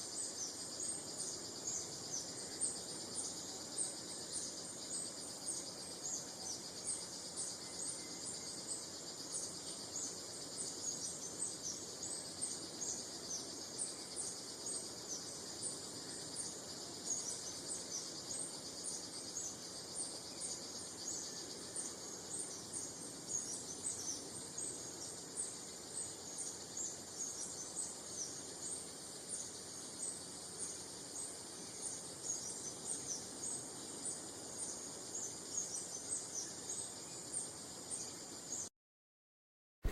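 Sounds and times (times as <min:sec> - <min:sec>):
high insect buzz: 0:00.0 - 0:38.7
small birds chirping: 0:00.0 - 0:38.7.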